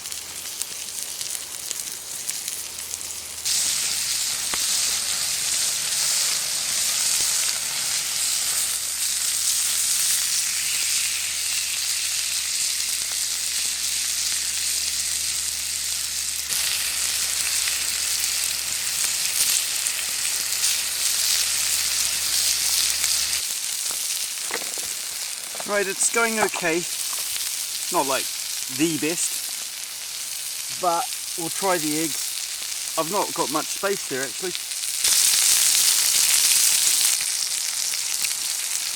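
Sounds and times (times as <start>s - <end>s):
food sizzling on hot slate: 0.0s - 38.9s.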